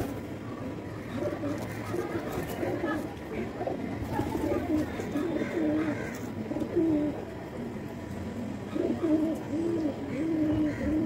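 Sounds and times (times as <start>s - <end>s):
pigeons cooing: 0.0s - 7.7s, 8.3s - 11.0s.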